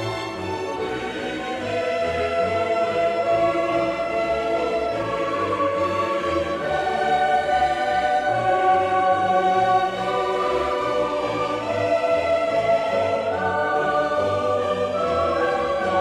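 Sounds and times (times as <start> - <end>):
choir holding sustained chords: 0.0 - 16.0
slow orchestral music: 0.0 - 16.0.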